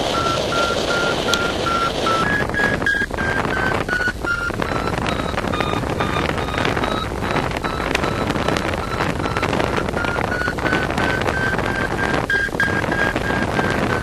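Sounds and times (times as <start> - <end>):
variometer beeping: 0.0 - 14.0
wind noise on microphone: 0.0 - 14.0.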